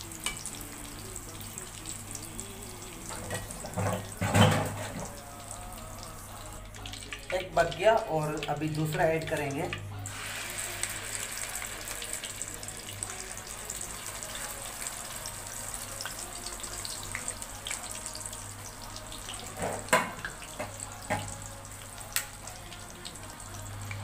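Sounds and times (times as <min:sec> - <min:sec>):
egg frying in hot oil: 0:00.0 - 0:24.0.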